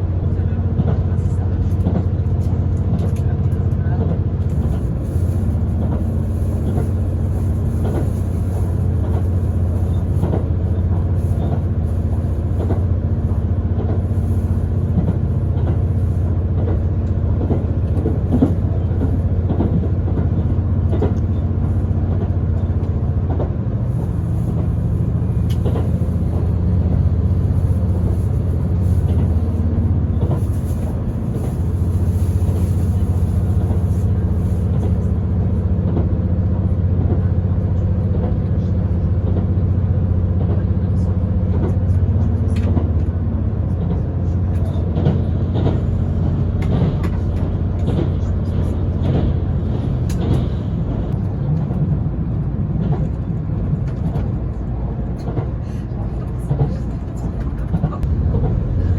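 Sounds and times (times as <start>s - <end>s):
train running drone: 0.0s - 58.9s.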